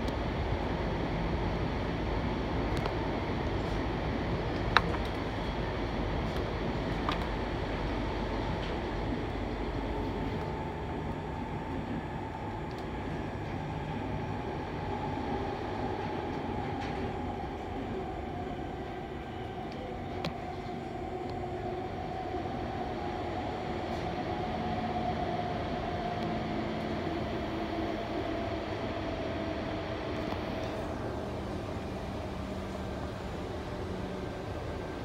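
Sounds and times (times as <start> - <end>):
train rumble: 0.0 - 35.0.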